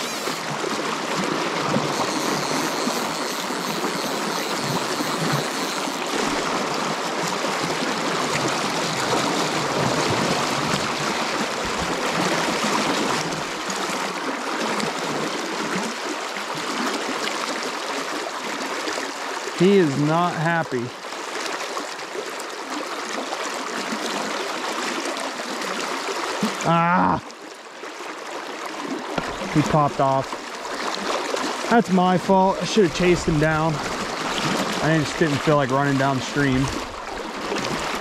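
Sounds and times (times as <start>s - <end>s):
creek water rushing: 0.0s - 38.0s.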